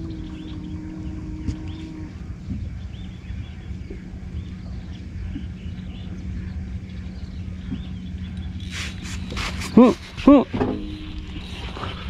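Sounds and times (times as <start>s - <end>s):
birds chirping: 0.0s - 12.0s
boat motor humming: 0.0s - 12.0s.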